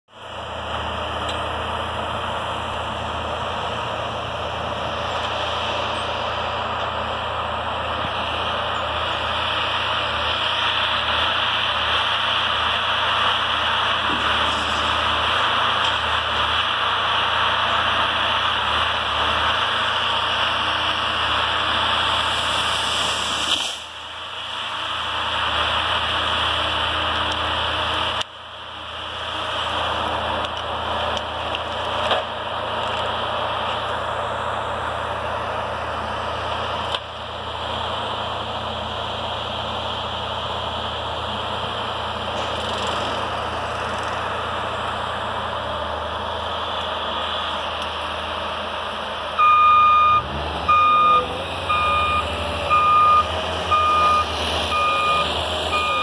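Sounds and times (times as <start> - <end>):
distant engine running: 0.1 - 56.0.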